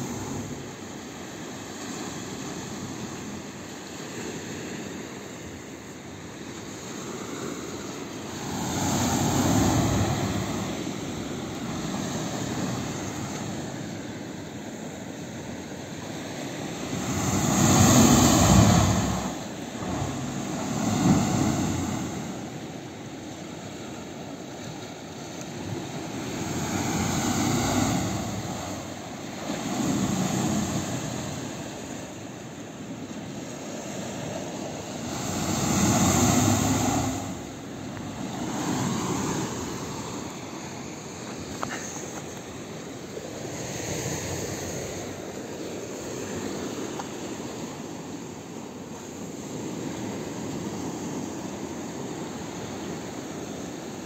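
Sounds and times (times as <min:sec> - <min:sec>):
ocean surf washing over rocks: 0:00.0 - 0:54.0.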